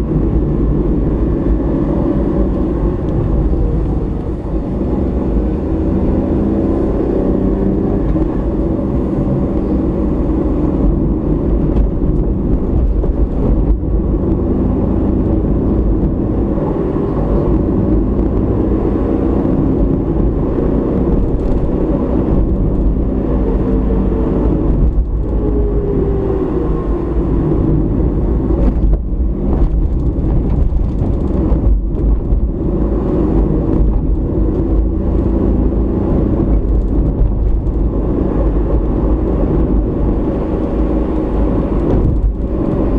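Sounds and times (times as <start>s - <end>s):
car engine hum: 0.0s - 42.9s.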